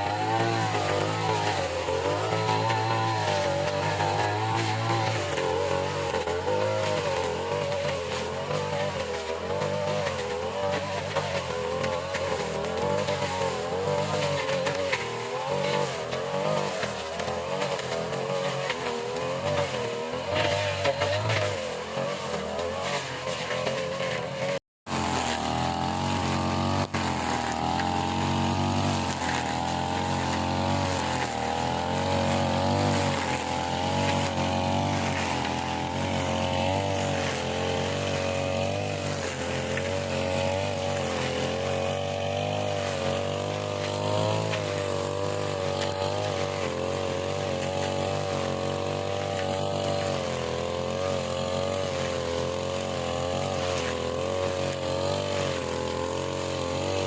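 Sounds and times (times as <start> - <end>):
grass cutter petrol engine running: 0.0 - 57.0.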